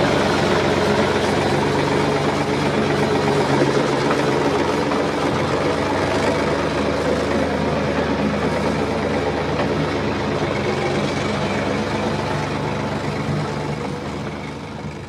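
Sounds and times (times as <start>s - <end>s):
heavy engine droning: 0.0s - 15.0s.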